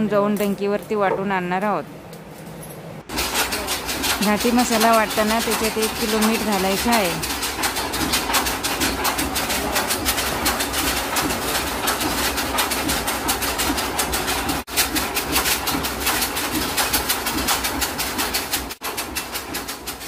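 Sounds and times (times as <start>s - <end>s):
stamp mill pounding thuds: 3.1s - 20.0s.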